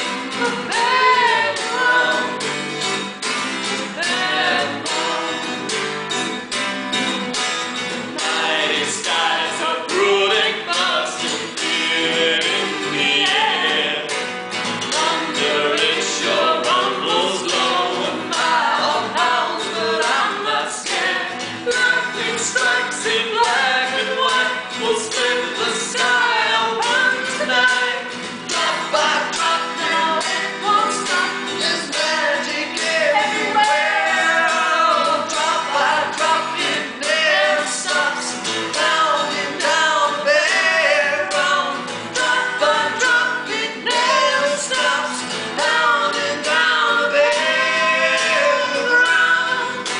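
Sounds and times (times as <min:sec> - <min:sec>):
voices singing in harmony: 0:00.0 - 0:06.3, 0:07.8 - 0:49.9
rhythmic instrumental accompaniment: 0:00.0 - 0:49.9.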